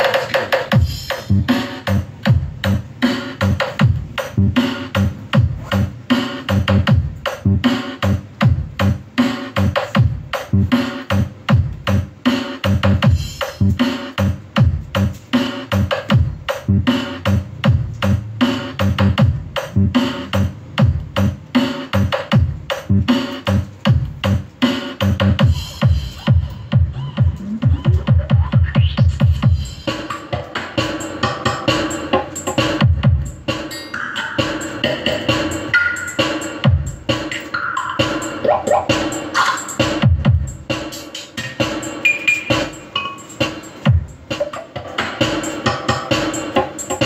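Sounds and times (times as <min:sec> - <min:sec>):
electronic music with bass beat: 0:00.0 - 0:47.0.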